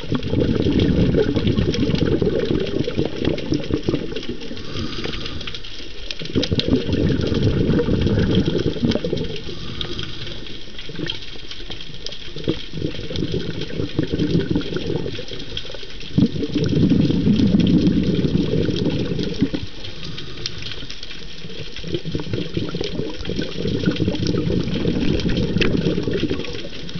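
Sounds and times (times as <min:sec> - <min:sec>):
underwater bubbles gurgling: 0:00.0 - 0:26.9
faint clicks: 0:00.8 - 0:26.9.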